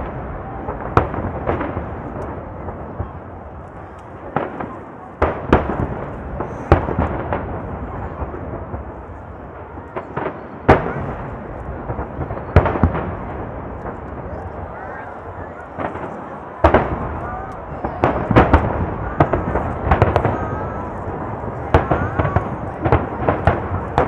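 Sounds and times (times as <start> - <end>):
continuous rumble: 0.0 - 24.0.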